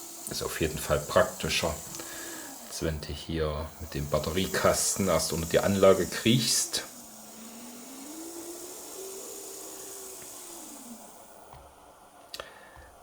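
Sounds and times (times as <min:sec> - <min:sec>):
small electric motor whining: 0:00.0 - 0:11.7
steady hiss: 0:00.0 - 0:13.0.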